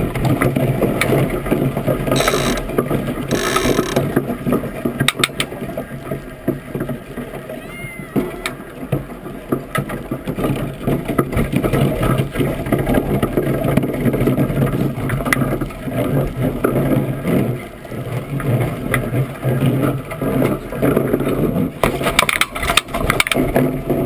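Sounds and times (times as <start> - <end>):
clicks and knocks through hull: 0.0 - 7.5, 8.4 - 24.0
runners rumbling over ice: 0.0 - 7.6, 8.2 - 24.0.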